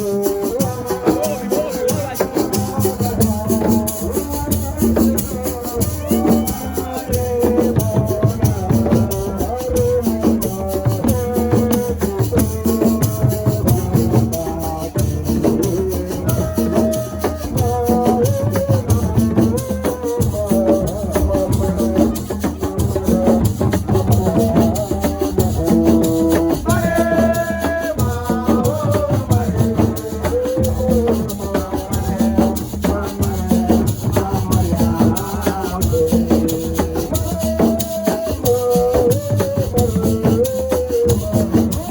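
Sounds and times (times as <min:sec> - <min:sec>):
drums: 0:00.0 - 0:41.9.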